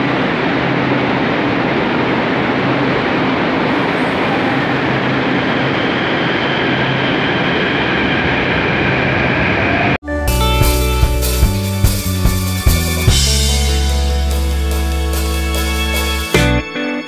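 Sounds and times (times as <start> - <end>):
train rushing noise with low hum: 0.0 - 16.8.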